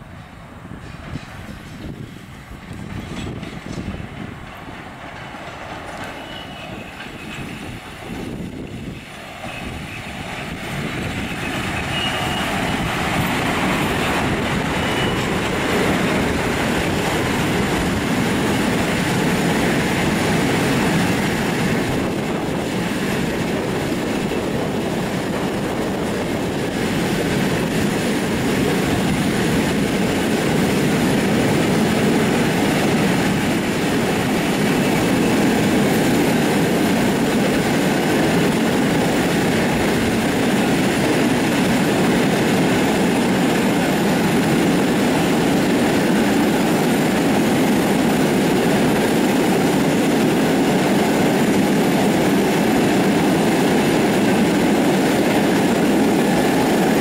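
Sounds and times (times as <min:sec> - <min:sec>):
electric locomotive passing: 0:00.0 - 0:57.0
train wheels clickety-clack: 0:00.0 - 0:57.0.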